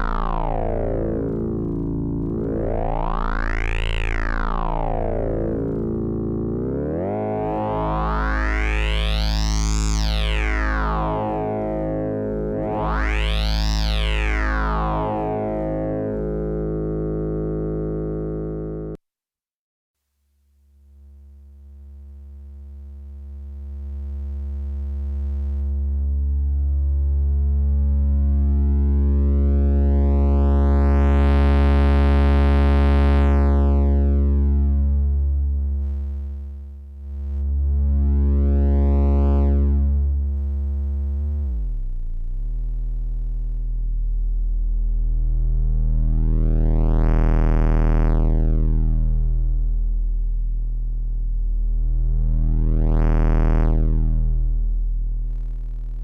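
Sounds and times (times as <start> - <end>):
analog oscillator low note: 0.0 - 19.0, 20.8 - 56.0.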